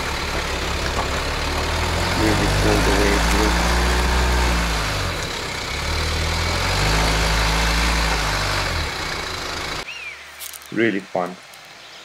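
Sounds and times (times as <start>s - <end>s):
car engine running at low revs: 0.0s - 9.8s.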